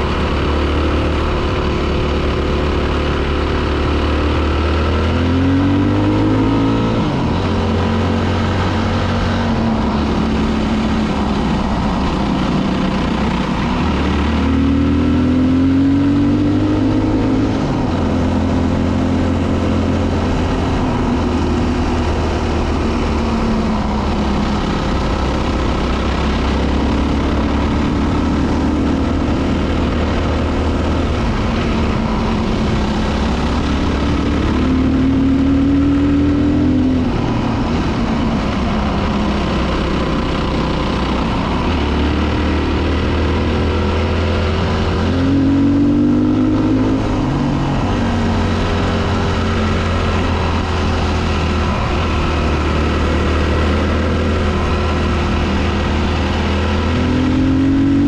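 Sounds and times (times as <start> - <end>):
steady rush of noise: 0.0 - 58.0.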